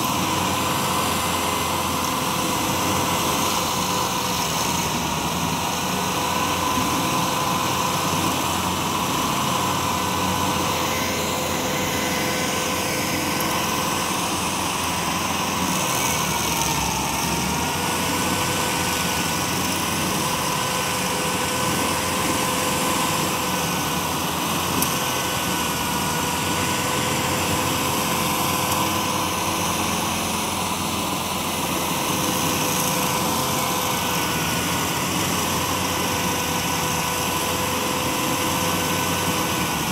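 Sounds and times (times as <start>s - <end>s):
stump grinder whining: 0.0s - 39.9s.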